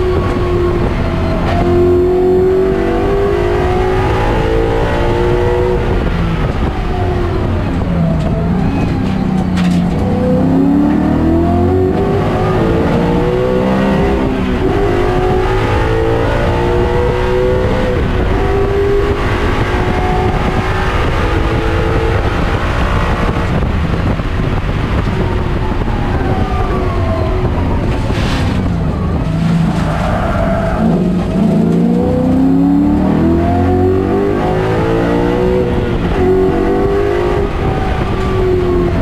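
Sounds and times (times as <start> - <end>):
race car engine revving: 0.0 - 25.9, 26.7 - 39.0.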